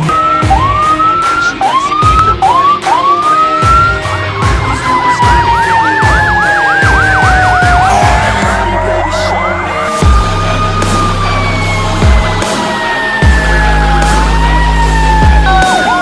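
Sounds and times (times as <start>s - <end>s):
fire engine siren wailing: 0.0s - 16.0s.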